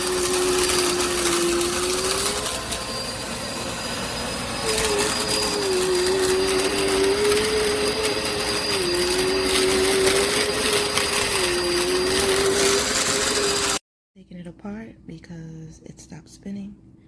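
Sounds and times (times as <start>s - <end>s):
vacuum cleaner running: 0.0s - 13.8s.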